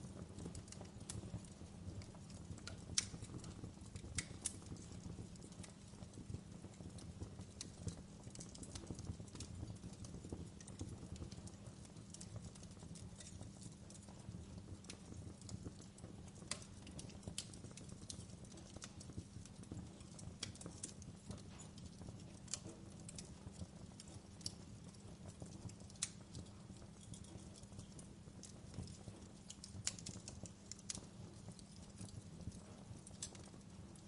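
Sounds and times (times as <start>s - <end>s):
fire rumbling: 0.0s - 34.0s
wood fire crackling: 0.0s - 34.0s.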